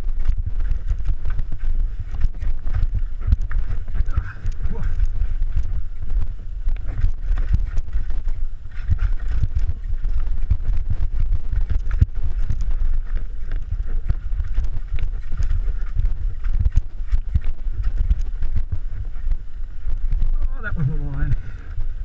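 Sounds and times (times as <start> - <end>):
mountain bike rattling on rocks: 0.0 - 22.0
wind on microphone: 0.0 - 22.0.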